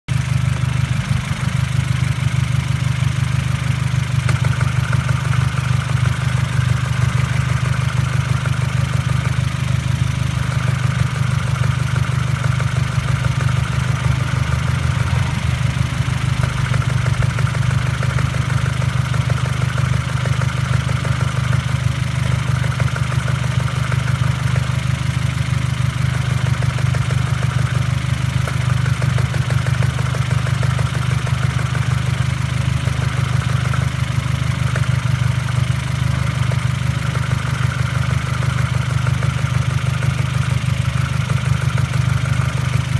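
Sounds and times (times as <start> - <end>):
car engine idling: 0.1 - 42.9.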